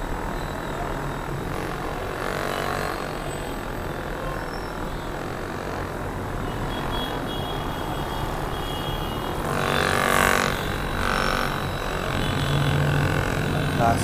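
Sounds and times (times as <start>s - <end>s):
massage gun motor buzz: 0.0s - 14.0s.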